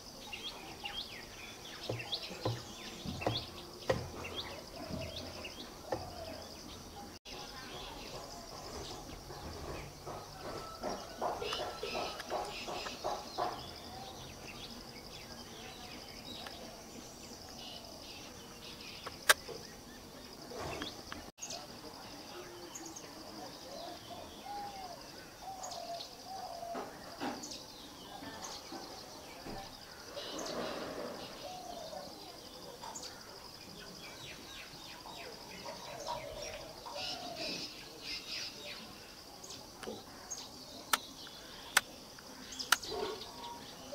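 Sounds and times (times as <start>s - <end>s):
birds giving high chirps: 0.0s - 43.9s.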